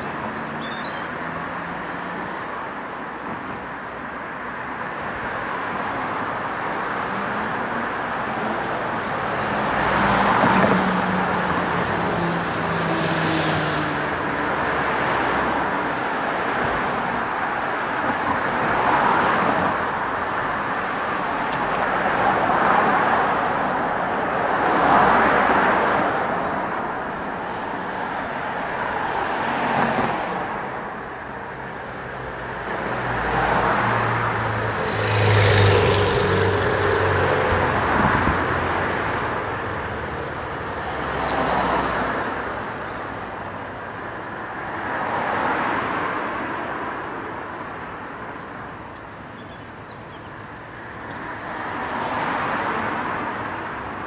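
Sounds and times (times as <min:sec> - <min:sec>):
cars passing close by: 0:00.0 - 0:54.0.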